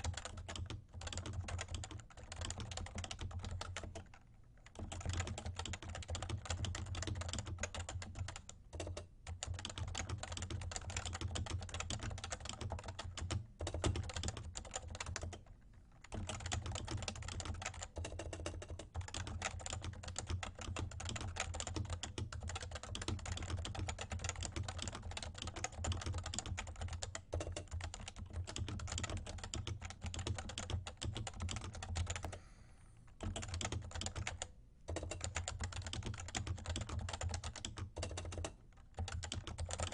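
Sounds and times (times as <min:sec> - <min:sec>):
fast typing on keyboard: 0:00.0 - 0:32.4, 0:33.2 - 0:39.9.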